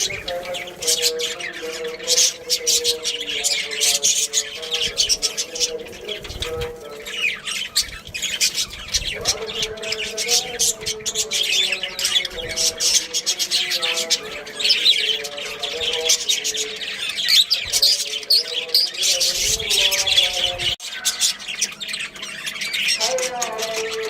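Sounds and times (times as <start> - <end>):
budgerigars chirping and chattering: 0.0 - 24.0.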